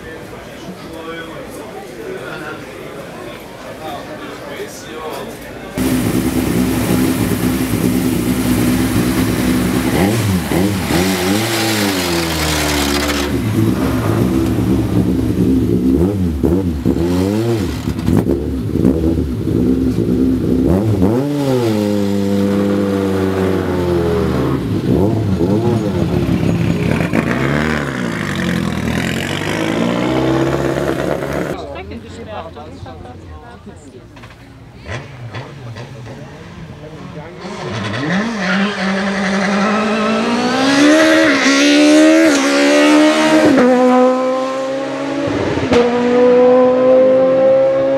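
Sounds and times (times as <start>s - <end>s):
car engine revving: 5.8s - 31.6s, 34.8s - 47.9s.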